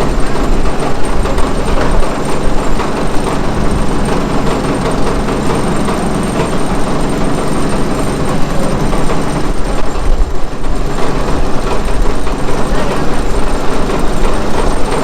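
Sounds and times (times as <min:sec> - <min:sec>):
heavy engine running loudly: 0:00.0 - 0:15.0.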